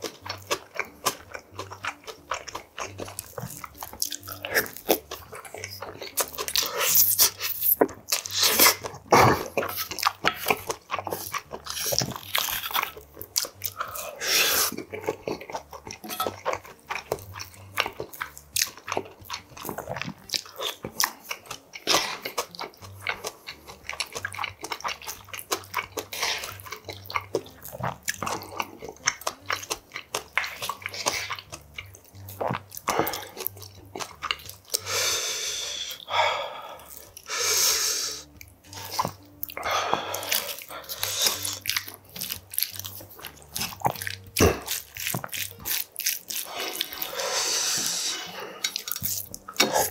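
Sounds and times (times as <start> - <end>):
chewing and biting food: 0.0 - 49.9.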